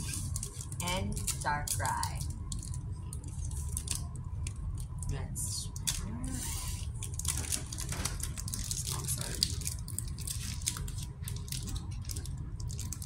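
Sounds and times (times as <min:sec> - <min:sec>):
foil wrappers crinkling and tearing: 0:00.0 - 0:04.9, 0:05.8 - 0:13.0.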